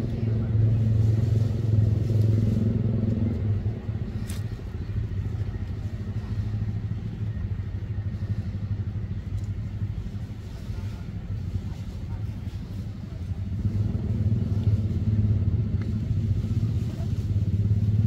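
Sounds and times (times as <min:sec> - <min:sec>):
motor engine humming: 0:00.0 - 0:18.0.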